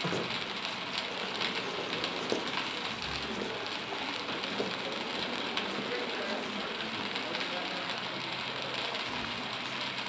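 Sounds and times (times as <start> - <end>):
crackling hiss with small ticks: 0.0 - 10.0.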